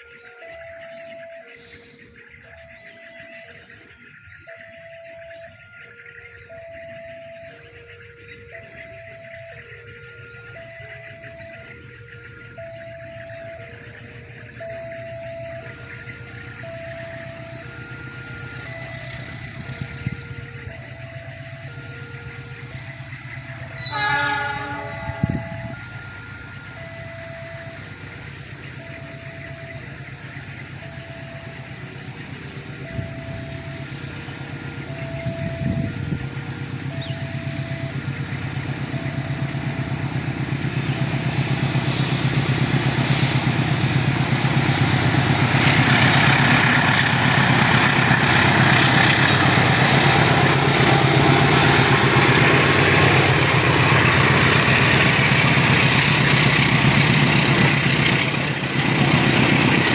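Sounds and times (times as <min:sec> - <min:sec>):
diesel train passing: 0:00.0 - 0:59.9
level crossing warning beeps: 0:00.0 - 0:59.9.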